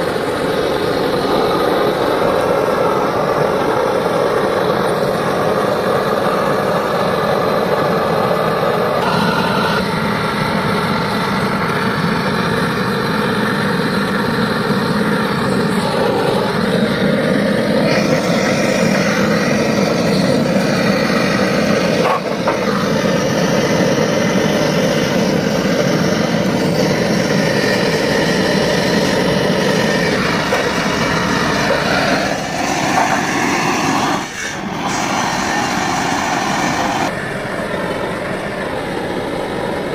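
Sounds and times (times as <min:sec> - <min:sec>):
gas torch flame rushing: 0:00.0 - 0:37.2.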